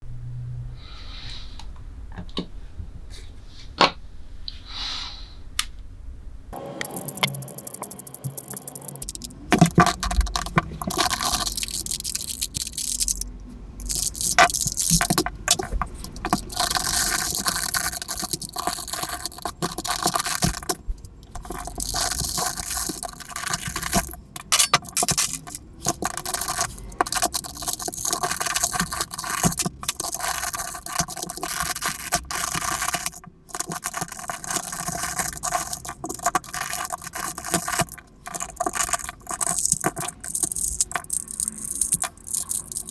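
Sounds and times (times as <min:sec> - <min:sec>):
plastic puzzle cube clicking: 0:06.8 - 0:42.9.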